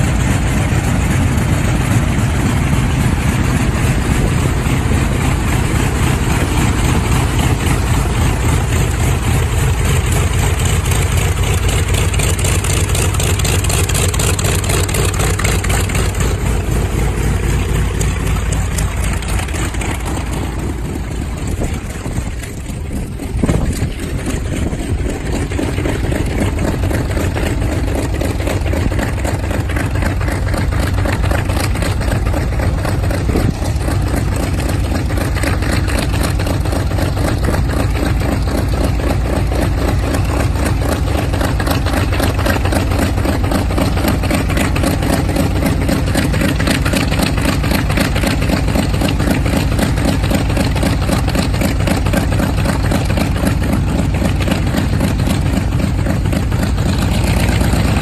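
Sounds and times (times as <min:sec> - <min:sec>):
aircraft radial engine idling: 0:00.0 - 0:58.0.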